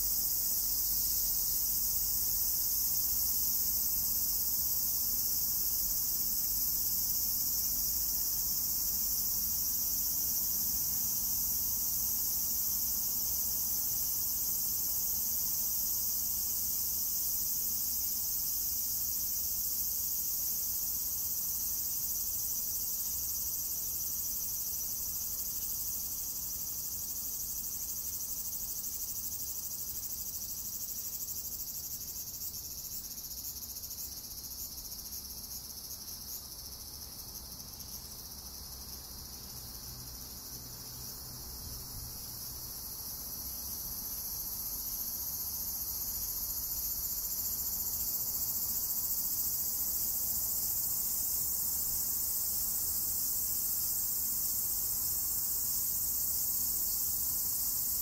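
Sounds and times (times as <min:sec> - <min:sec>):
cicadas singing: 0:00.0 - 0:58.0.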